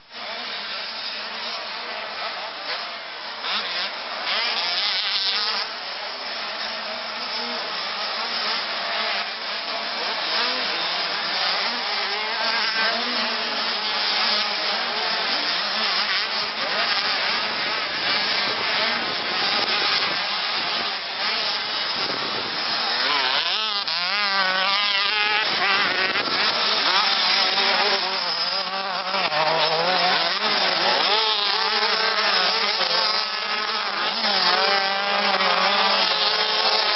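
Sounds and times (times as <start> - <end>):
motocross bikes revving: 0.0 - 36.9.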